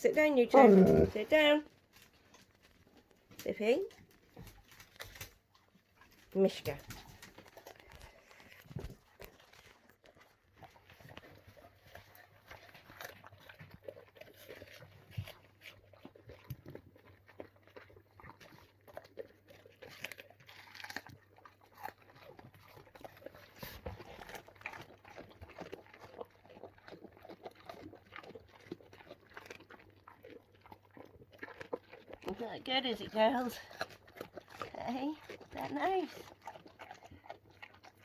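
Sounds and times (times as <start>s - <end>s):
dogs chewing watermelon: 0.0s - 38.0s.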